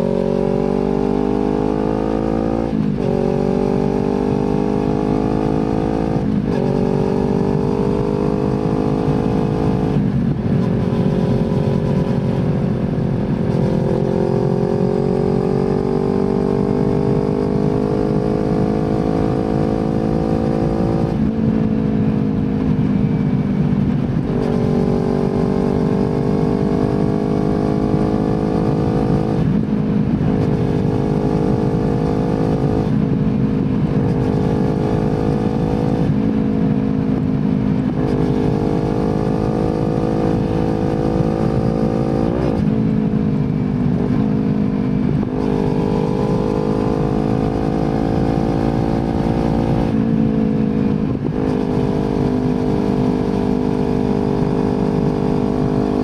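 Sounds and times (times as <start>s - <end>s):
motorcycle engine accelerating: 0.0s - 56.0s
rumble of wind and road: 0.0s - 56.0s.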